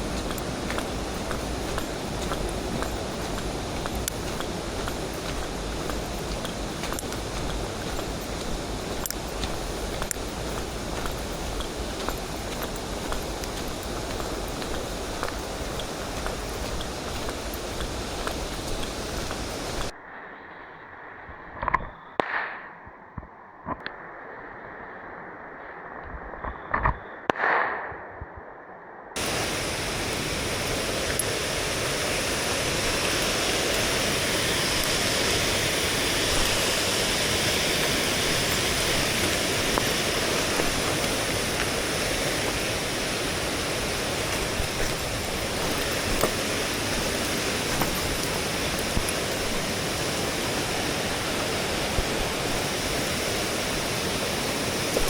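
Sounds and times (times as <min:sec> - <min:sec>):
stream rushing: 0:00.0 - 0:20.0, 0:29.2 - 0:55.0.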